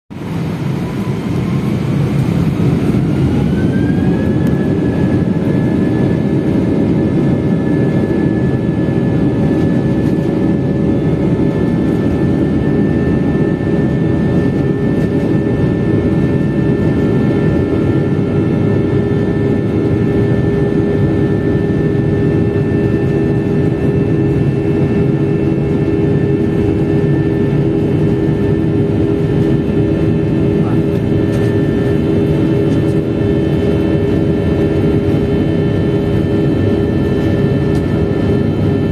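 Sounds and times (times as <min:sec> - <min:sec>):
jet engine whine: 0:00.1 - 0:38.9.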